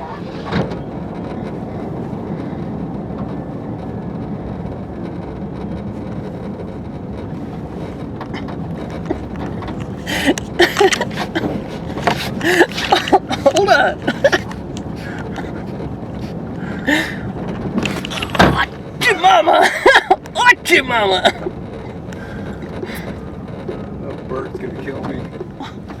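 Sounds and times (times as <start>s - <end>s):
road and tyre noise in car cabin: 0.0s - 26.0s.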